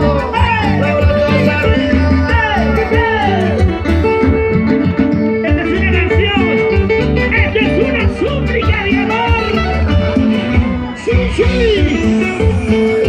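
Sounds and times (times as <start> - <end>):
bass line: 0.0 - 13.0
live band music: 0.0 - 13.0
plucked guitar: 0.0 - 13.0.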